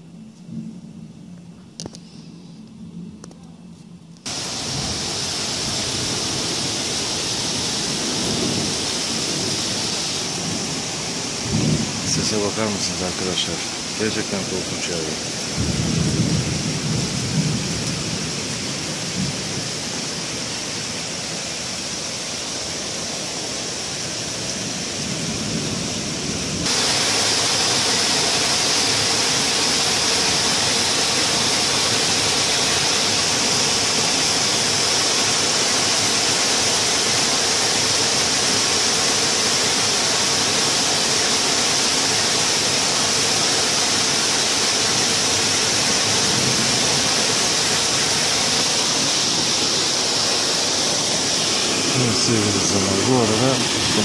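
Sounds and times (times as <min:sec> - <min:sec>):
heavy rain hissing: 0:04.3 - 0:54.0.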